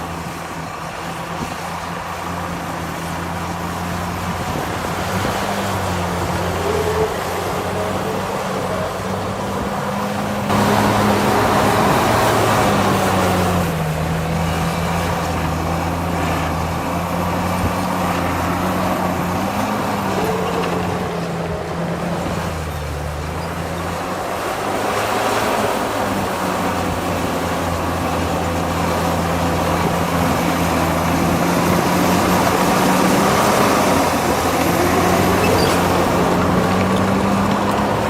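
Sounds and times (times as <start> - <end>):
diesel machine engine under load: 0.0 - 38.0.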